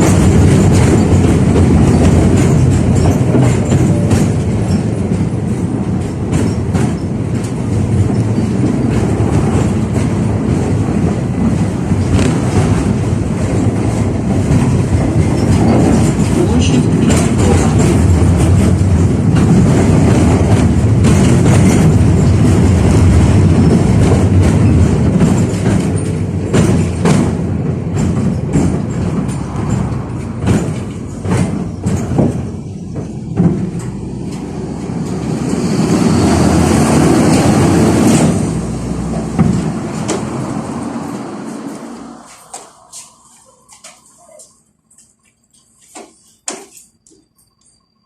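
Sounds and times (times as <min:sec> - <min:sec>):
tram wheels rumbling: 0:00.0 - 0:48.0
wheels clacking over rail joints: 0:00.0 - 0:48.0.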